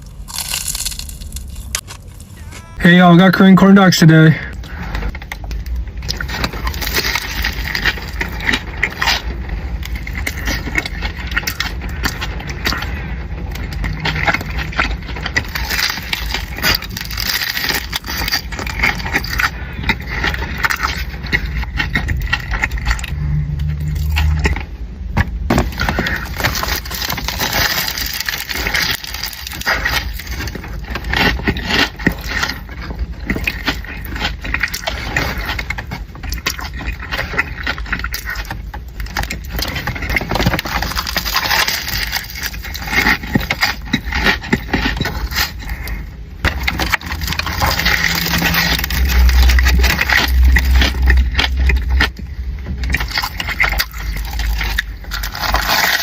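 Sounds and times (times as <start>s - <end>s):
crunching fried batter: 0.0s - 2.8s, 3.8s - 56.0s
wet chewing: 0.0s - 2.8s, 4.5s - 56.0s.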